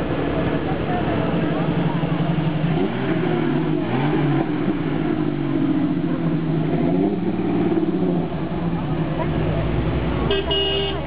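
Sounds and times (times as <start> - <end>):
car engines revving past: 0.0 - 11.0.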